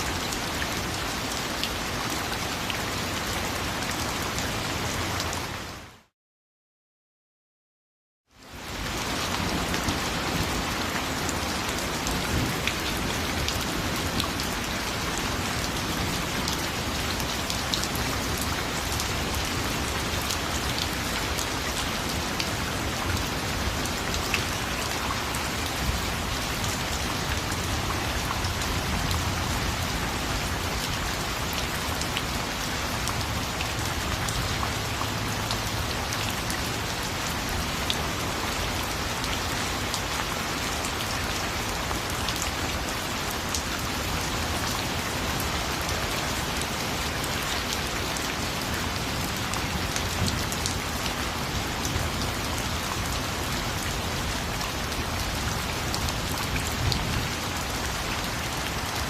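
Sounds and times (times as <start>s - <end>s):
steady rain hiss: 8.4s - 59.0s.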